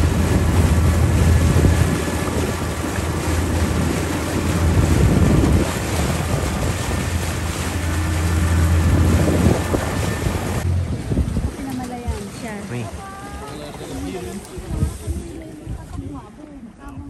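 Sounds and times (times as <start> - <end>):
boat motor running: 0.0 - 16.1
water rushing past hull: 0.0 - 16.8
wind buffeting microphone: 0.0 - 17.0.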